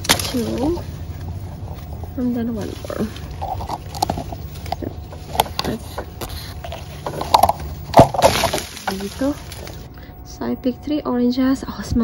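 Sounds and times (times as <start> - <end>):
leaves and twigs rustling: 0.0 - 10.0.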